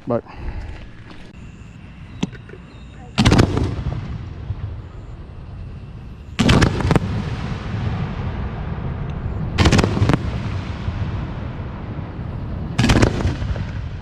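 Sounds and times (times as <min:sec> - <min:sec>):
rumbling echo: 0:01.8 - 0:14.0
fireworks bangs: 0:02.2 - 0:14.0.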